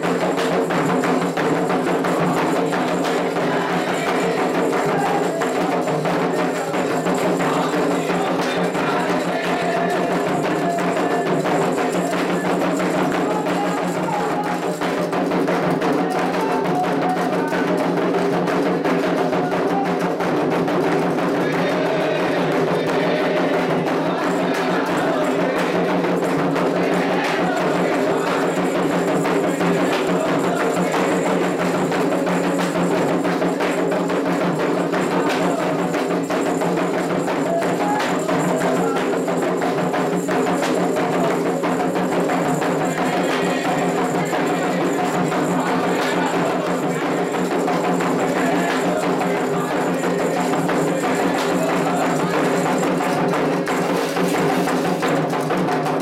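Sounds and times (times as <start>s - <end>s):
hand drums playing: 0.0s - 56.0s
sharp wood-block-like strikes: 0.0s - 56.0s.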